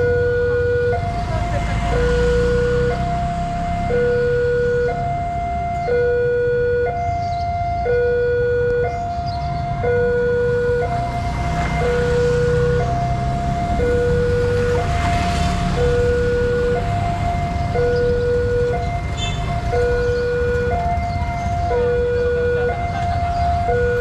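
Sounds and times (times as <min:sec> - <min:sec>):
motorbike passing: 0:00.0 - 0:06.0, 0:08.9 - 0:24.0
road traffic: 0:00.0 - 0:24.0
two-tone crossing alarm: 0:00.0 - 0:24.0.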